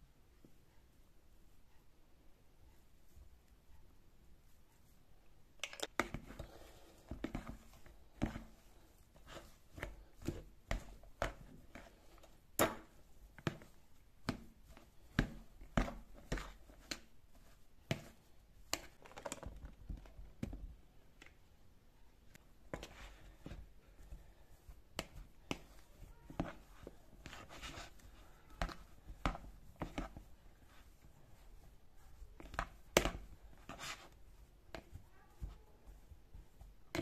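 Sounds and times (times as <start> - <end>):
fork mixing mashed potato: 5.6 - 20.7, 22.4 - 37.0.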